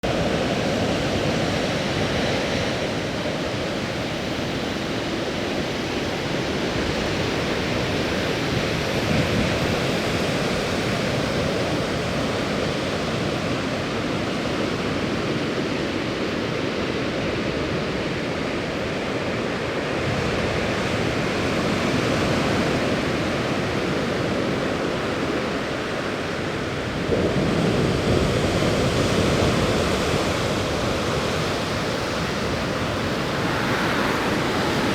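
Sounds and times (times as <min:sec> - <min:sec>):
waves breaking on shore: 0:00.0 - 0:34.9
wind on microphone: 0:00.0 - 0:34.9.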